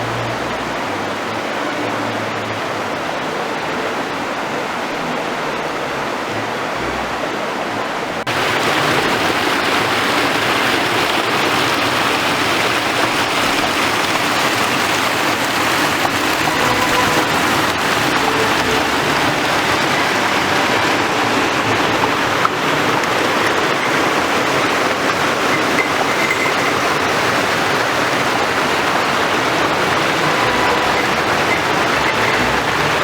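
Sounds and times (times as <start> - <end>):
waterfall and stream rushing: 0.0 - 33.0.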